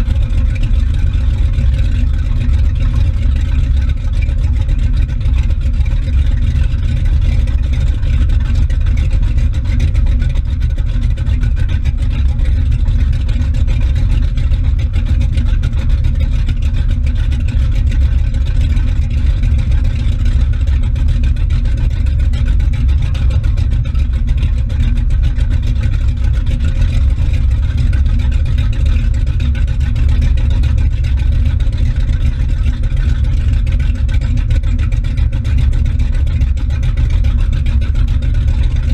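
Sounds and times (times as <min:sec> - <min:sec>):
motorboat engine rumble: 0:00.0 - 0:38.9
wake water churning: 0:00.0 - 0:38.9.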